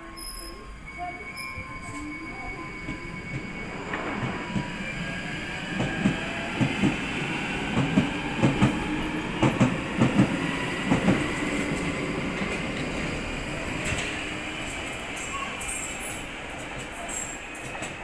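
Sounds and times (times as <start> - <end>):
train rumble: 0.1 - 18.0.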